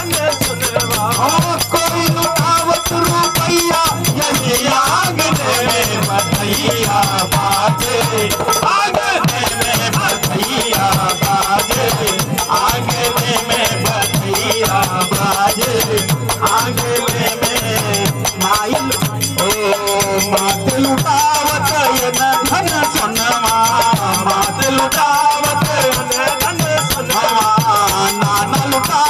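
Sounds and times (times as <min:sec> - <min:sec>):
hand drumming: 0:00.0 - 0:29.0
harmonium melody: 0:00.0 - 0:29.0
voices singing: 0:00.0 - 0:29.0.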